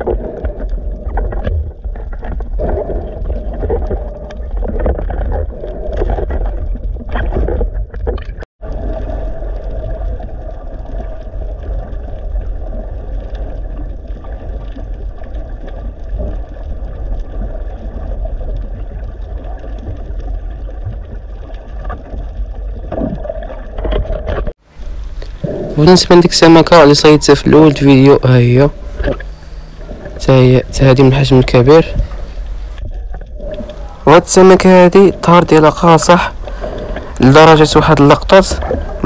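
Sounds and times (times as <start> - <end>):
muffled underwater water noise: 0.0 - 39.0
water sloshing and bubbling: 0.0 - 39.0.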